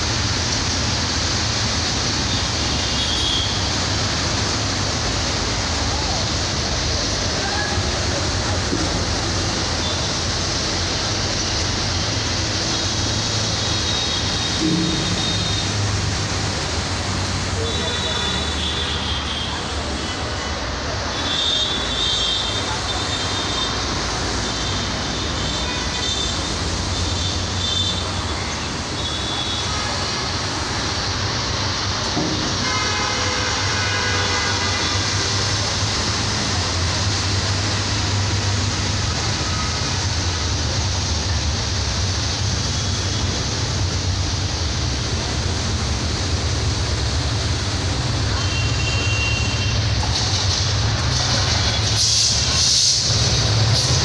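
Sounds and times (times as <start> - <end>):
hiss burst: 0.0 - 20.2, 20.9 - 54.0
diesel locomotive engine drone: 0.0 - 54.0.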